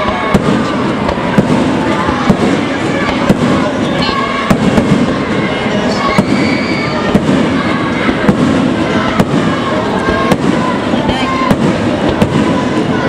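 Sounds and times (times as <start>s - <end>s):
fireworks bangs: 0.0s - 13.0s
steady din: 0.0s - 13.0s.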